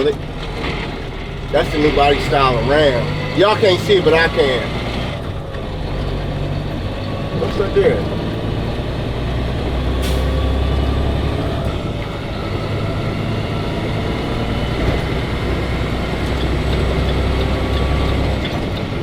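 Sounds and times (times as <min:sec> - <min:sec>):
road noise inside cab: 0:00.0 - 0:19.0
truck engine drone: 0:00.0 - 0:19.0.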